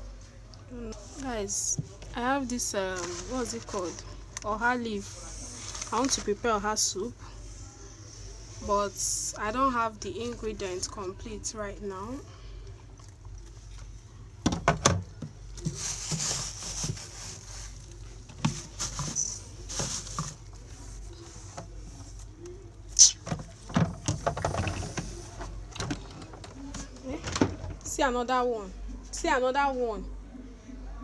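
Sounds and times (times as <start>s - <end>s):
rustling handling noise: 0.1s - 28.1s.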